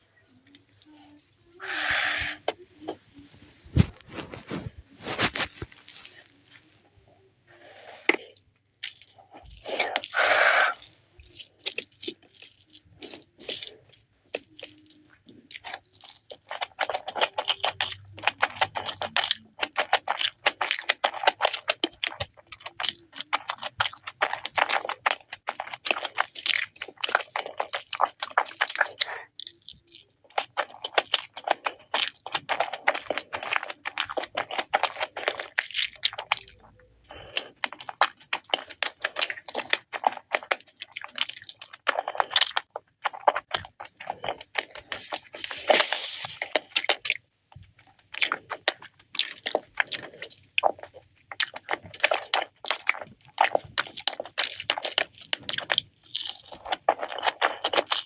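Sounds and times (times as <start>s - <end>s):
crunching and chewing fried chicken: 0.0s - 58.0s.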